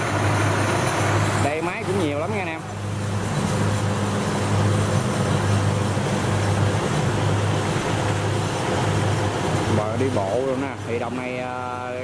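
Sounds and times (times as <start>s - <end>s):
diesel engine droning: 0.0s - 11.8s.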